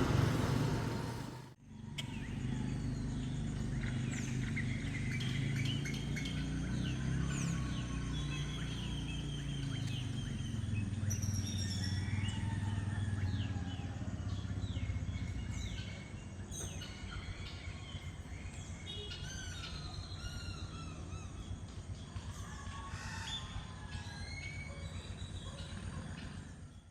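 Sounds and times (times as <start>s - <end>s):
birds chirping and calling: 0.0s - 26.8s.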